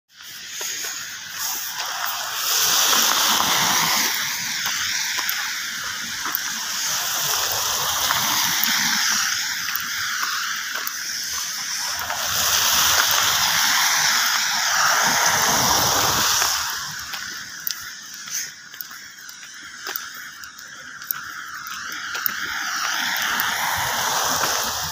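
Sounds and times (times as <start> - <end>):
tyres splashing on wet road: 0.1 - 24.9.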